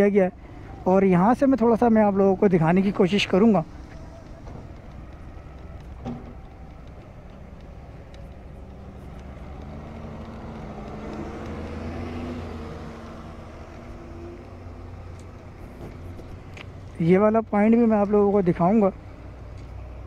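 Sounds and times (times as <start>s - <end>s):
diesel engines humming: 0.0s - 20.0s.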